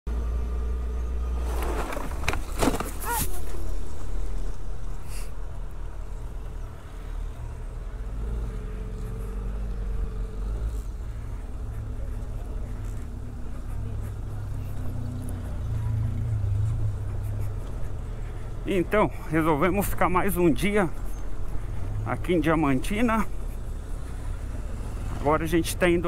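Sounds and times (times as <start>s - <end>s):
motorcycle engine idling: 3.6s - 25.7s.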